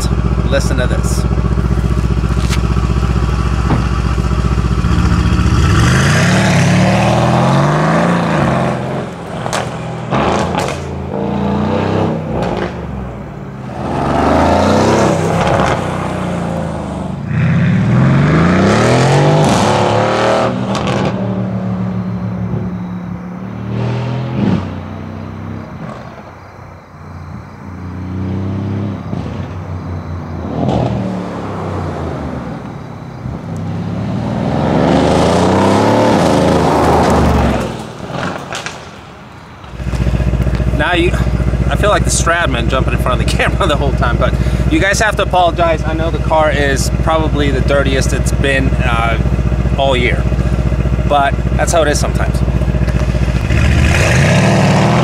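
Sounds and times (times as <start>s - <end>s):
exhaust crackles: 0.0s - 22.7s, 27.8s - 55.0s
car engine accelerating hard: 0.0s - 26.3s, 27.7s - 38.7s, 39.7s - 55.0s.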